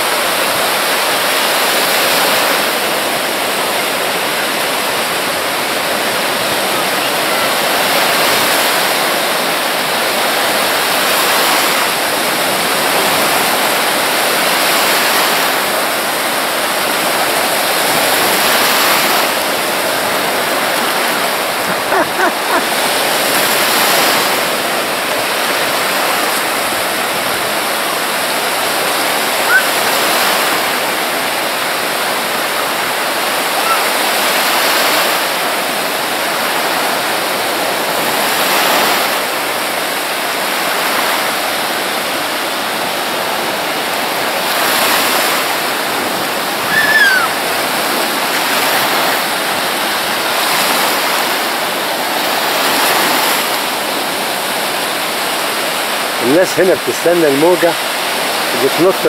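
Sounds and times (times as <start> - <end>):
surf washing in shallow water: 0.0 - 59.0.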